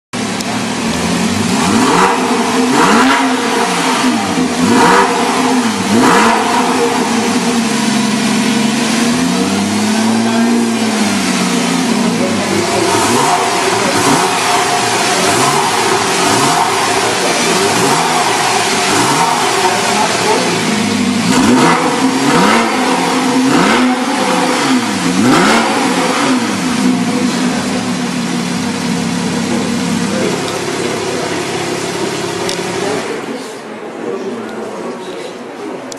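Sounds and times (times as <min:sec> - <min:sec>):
car engine idling: 0:00.1 - 0:35.8
car engine revving: 0:00.2 - 0:34.2.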